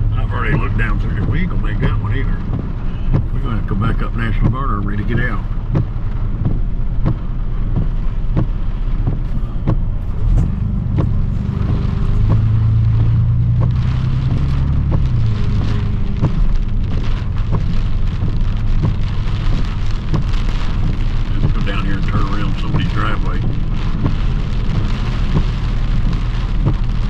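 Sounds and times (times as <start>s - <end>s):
raindrops ticking on roof: 0.0s - 27.0s
truck engine running: 0.0s - 27.0s.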